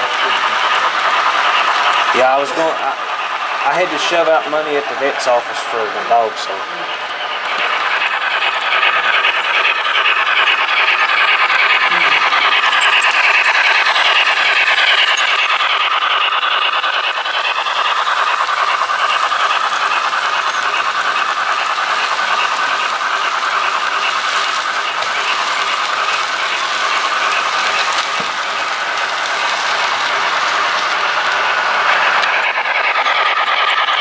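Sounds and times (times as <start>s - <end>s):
model train wheels rumbling on rails: 0.0s - 34.0s.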